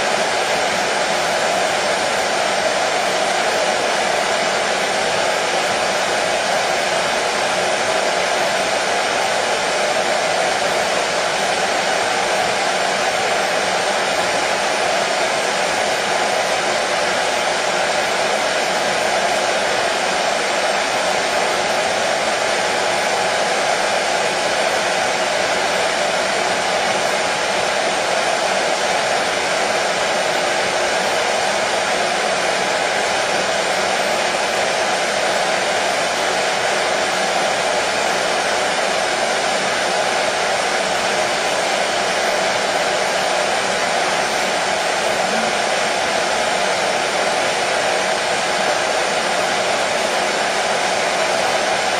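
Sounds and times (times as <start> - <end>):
hair dryer blowing hum: 0.0 - 51.9.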